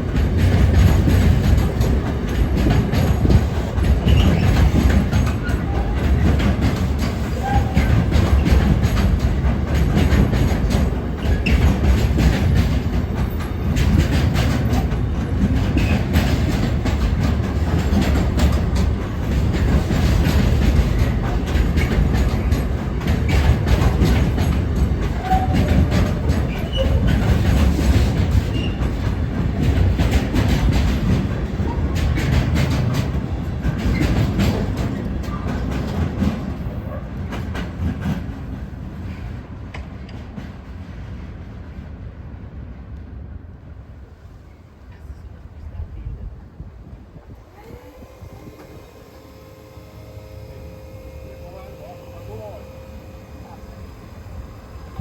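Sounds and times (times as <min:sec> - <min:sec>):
train wheels clattering over rails: 0:00.0 - 0:42.9, 0:43.7 - 0:55.0.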